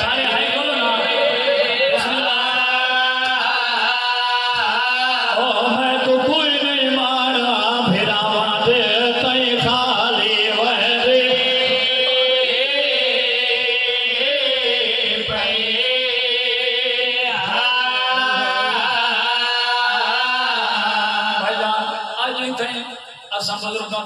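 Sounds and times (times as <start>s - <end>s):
man chanting into a microphone: 0.0s - 24.0s.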